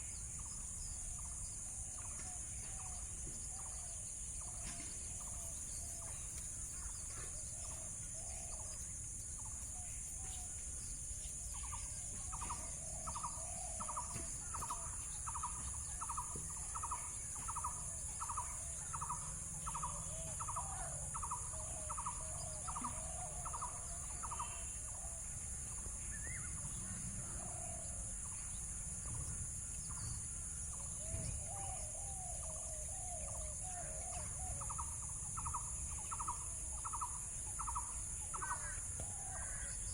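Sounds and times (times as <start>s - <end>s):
bird chirping: 0.0s - 39.9s
lower wavering bird calls: 0.0s - 39.9s.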